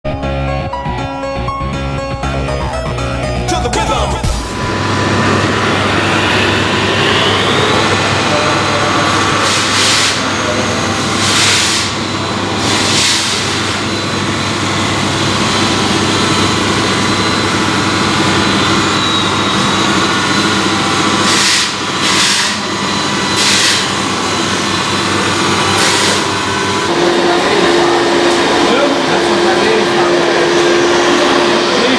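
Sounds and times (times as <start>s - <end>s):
electric motor and gear whine: 3.8s - 31.9s.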